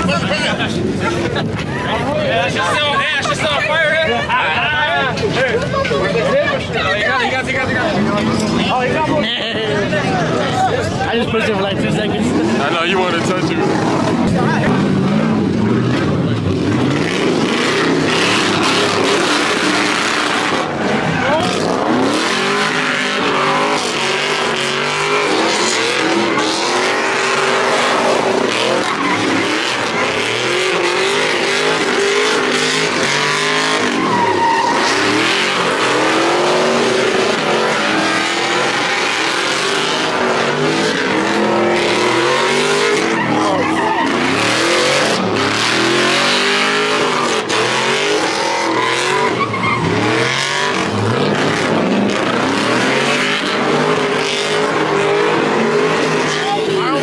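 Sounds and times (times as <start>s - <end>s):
tires squealing and skidding: 0.0s - 57.0s
truck engines revving: 0.0s - 57.0s.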